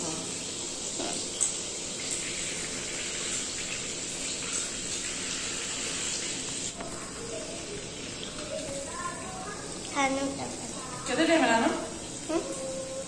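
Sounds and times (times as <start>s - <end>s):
deep-frying in hot oil: 0.0s - 13.0s.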